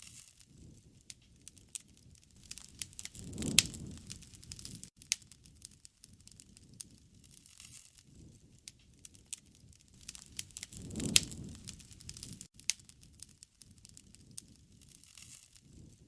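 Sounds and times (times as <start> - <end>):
campfire crackling and popping: 0.0 - 16.0
low rush of fire: 0.6 - 16.0.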